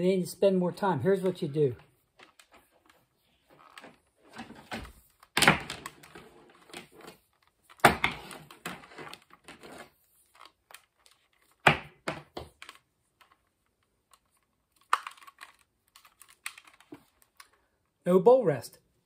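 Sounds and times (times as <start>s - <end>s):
cord rustling and clicking on plastic: 1.1s - 18.0s.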